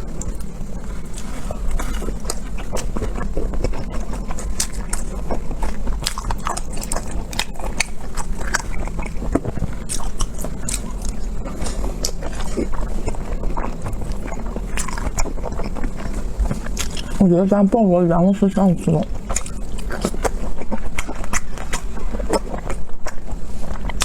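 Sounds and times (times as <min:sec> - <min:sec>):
biting and chewing: 0:00.0 - 0:17.3, 0:18.8 - 0:24.0
low hum: 0:00.0 - 0:24.0
wet mouth clicks: 0:00.1 - 0:17.2, 0:19.0 - 0:24.0.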